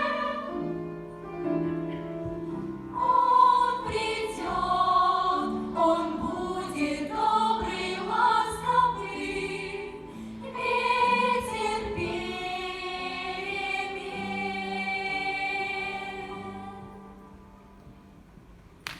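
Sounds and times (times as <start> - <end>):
choir singing: 0.0 - 0.9, 2.9 - 17.4.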